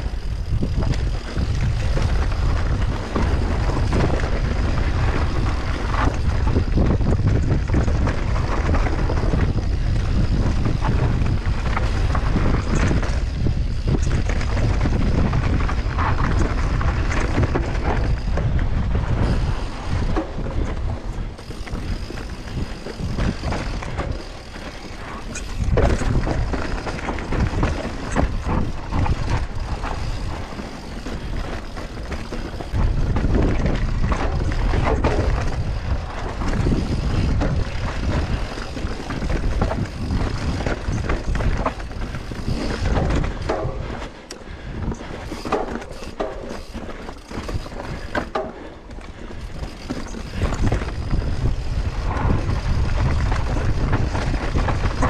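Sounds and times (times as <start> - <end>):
bike frame rattling over bumps: 0.0 - 55.0
wind rumbling on microphone: 0.0 - 55.0.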